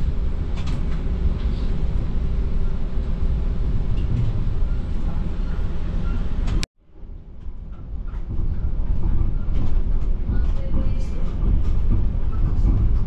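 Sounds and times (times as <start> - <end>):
streetcar rumbling on rails: 0.0 - 13.0.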